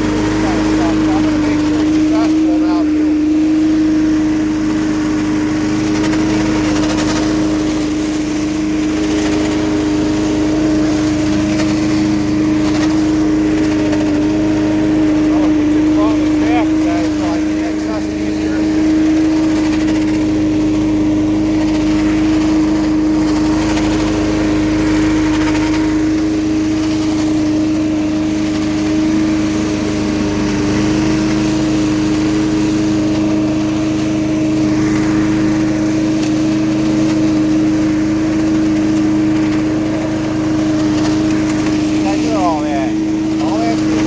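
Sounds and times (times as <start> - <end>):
leaf vacuum running: 0.0 - 44.0.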